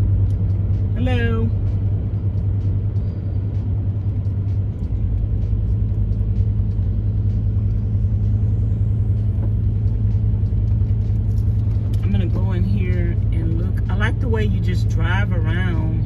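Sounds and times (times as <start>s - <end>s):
van engine and tyre rumble: 0.0s - 16.0s.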